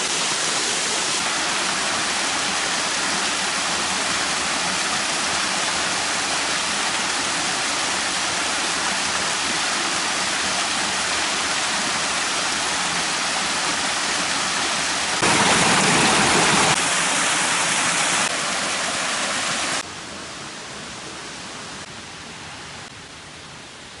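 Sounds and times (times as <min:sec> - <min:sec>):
waterfall rushing: 0:00.0 - 0:22.1.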